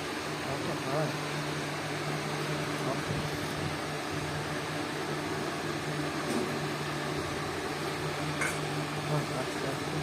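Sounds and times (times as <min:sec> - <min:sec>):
fan motor humming: 0:00.0 - 0:10.0.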